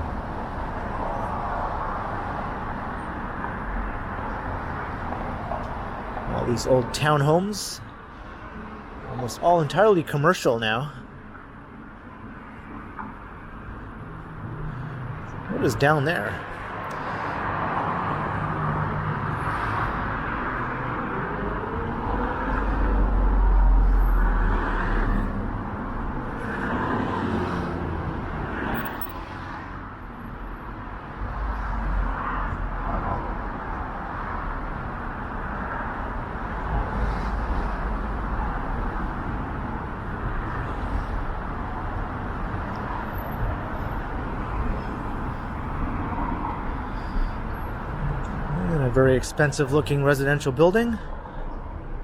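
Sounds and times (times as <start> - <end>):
cars passing on road: 0.0 - 52.0.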